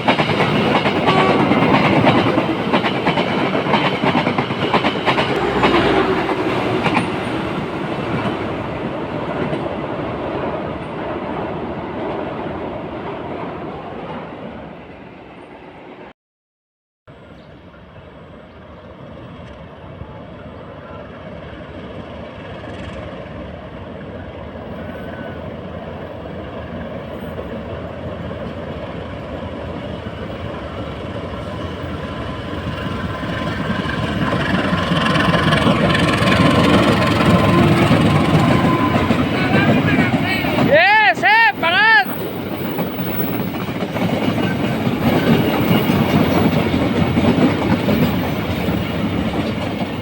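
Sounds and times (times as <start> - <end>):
diesel locomotive engine rumble: 0.0 - 11.8, 17.2 - 50.0.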